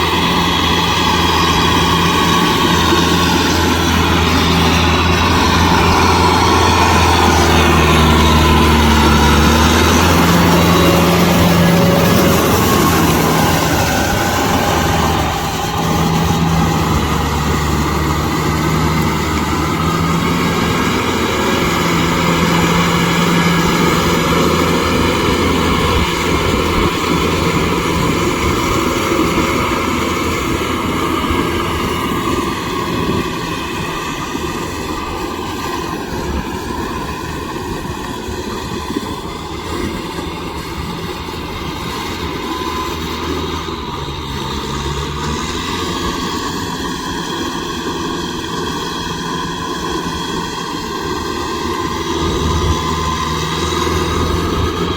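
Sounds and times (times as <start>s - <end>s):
rotavator churning: 0.0s - 54.9s
tractor diesel engine drone: 0.0s - 54.9s.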